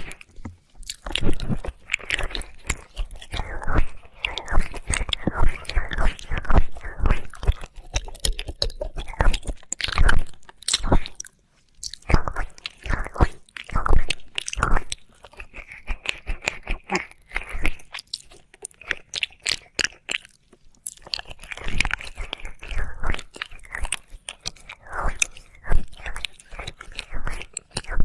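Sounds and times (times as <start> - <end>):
wet mouth licking sounds: 0.0 - 28.0.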